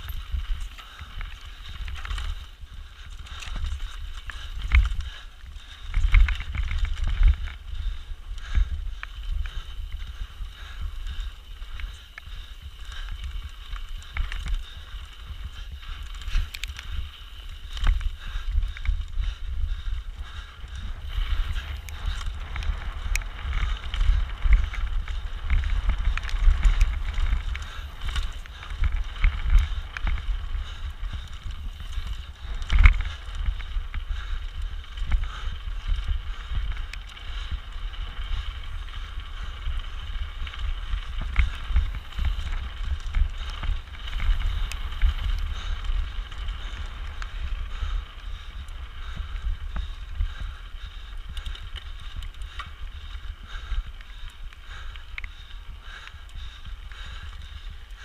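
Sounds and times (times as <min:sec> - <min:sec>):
bike clattering: 0:00.0 - 0:58.0
wind buffeting microphone: 0:00.0 - 0:58.0.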